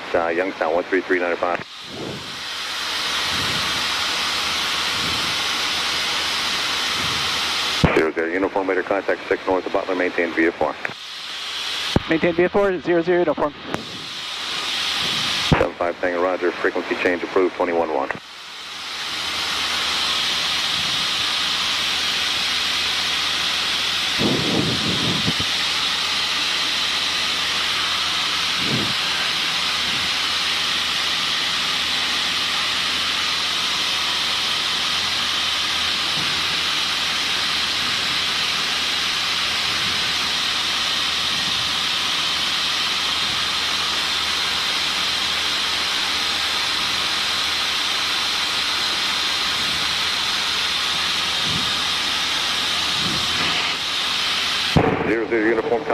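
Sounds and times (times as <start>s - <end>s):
faint engine hum: 0.0s - 55.9s.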